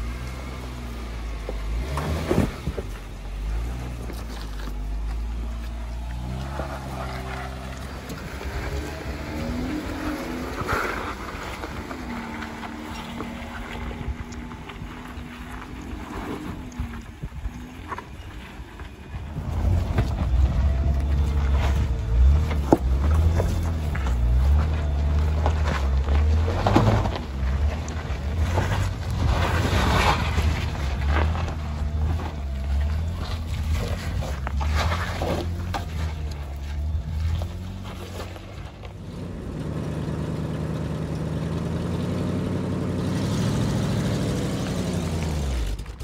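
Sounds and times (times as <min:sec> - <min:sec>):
engine running at low revs: 0:00.0 - 0:46.0
tyres crunching on rock and gravel: 0:00.0 - 0:46.0.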